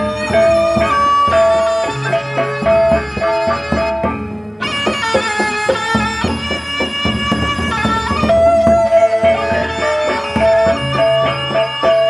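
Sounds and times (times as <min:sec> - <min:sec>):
barrel drums beating: 0:00.0 - 0:12.0
held melody line: 0:00.0 - 0:12.0
ringing gongs: 0:00.0 - 0:12.0.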